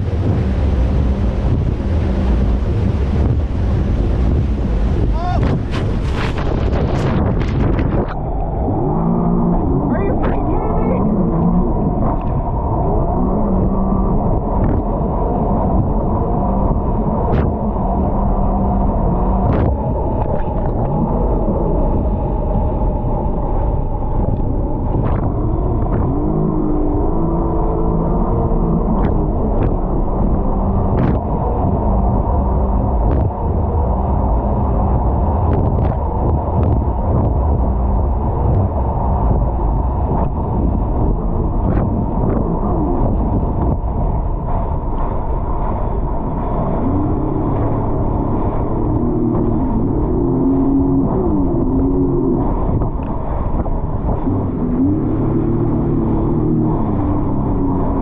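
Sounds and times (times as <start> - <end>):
jet ski engine running: 0.0 - 58.0.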